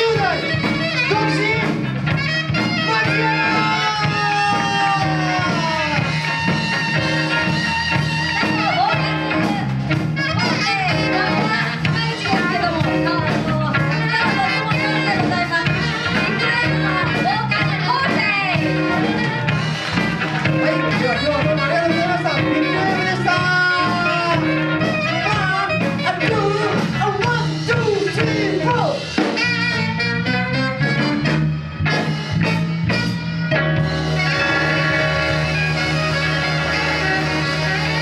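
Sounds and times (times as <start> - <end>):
bass: 0.0 - 38.0
saxophone melody: 0.0 - 38.0.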